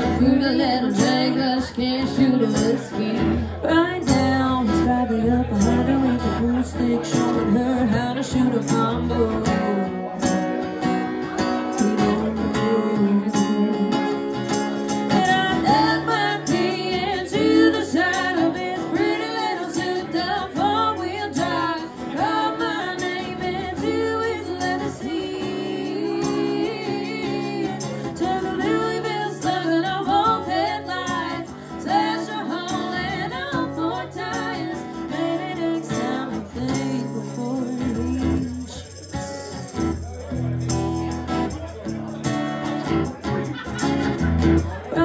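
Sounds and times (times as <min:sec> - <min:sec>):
woman singing: 0:00.0 - 0:10.4, 0:11.8 - 0:14.3, 0:15.1 - 0:38.9
acoustic guitar: 0:00.0 - 0:45.0
live band playing country: 0:00.0 - 0:45.0.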